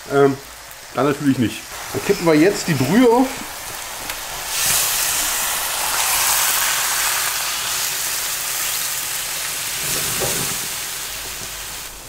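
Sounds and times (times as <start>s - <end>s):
food sizzling in a pan: 0.0s - 12.0s
liquid pouring and splashing: 1.7s - 11.9s.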